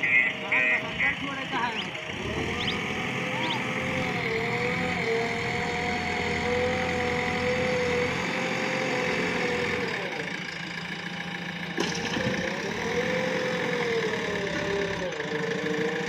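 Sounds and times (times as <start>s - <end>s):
hydraulic whine: 0.0s - 10.3s, 11.7s - 16.0s
diesel engine under hydraulic load: 0.0s - 16.0s.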